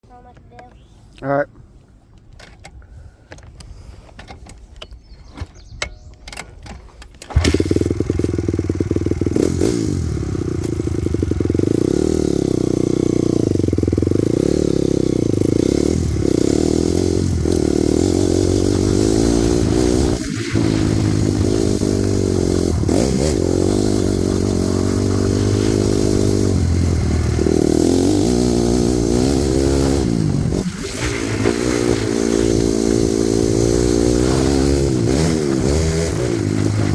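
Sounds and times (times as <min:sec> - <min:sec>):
motorcycle engine revving: 0:07.2 - 0:36.9.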